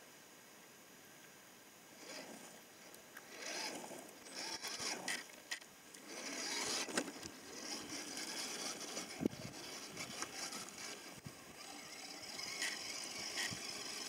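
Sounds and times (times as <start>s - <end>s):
toy car motor and gears whining: 2.0s - 14.0s
tyres scraping over dirt: 2.0s - 14.0s.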